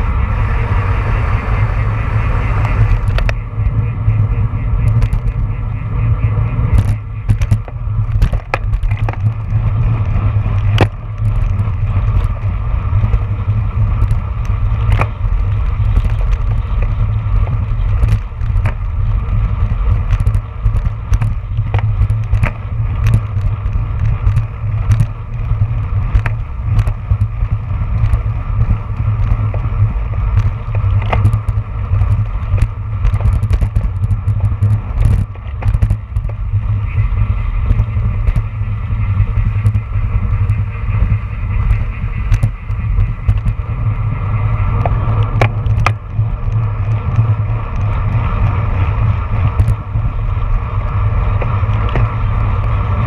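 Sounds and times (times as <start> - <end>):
bike clicks and rattles: 0.0 - 53.0
road and tyre noise: 0.0 - 53.0
wind buffeting microphone: 0.0 - 53.0.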